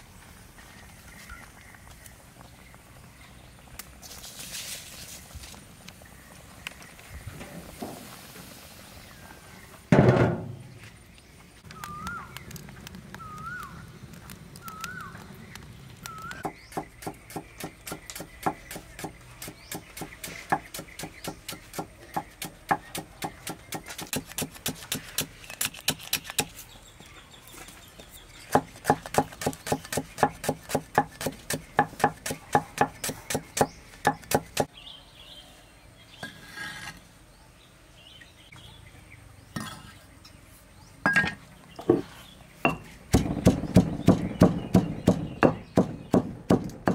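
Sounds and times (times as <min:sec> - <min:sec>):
bird chirping: 0:09.0 - 0:46.9.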